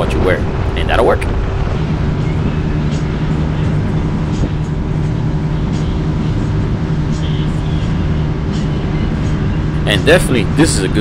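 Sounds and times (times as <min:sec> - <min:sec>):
water and wind rushing: 0:00.0 - 0:11.0.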